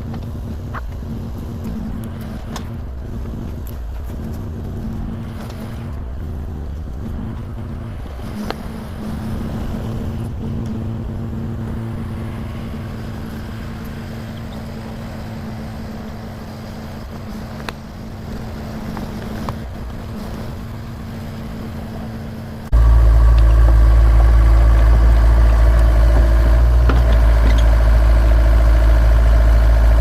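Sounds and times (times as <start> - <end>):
heavy equipment engine rumbling: 0.0 - 30.0.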